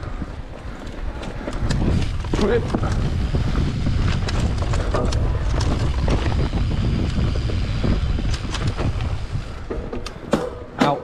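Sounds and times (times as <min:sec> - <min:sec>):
mountain bike rumbling on dirt: 0:00.0 - 0:10.7
wind buffeting microphone: 0:00.0 - 0:10.7
bike clicks and rattles: 0:00.0 - 0:11.0.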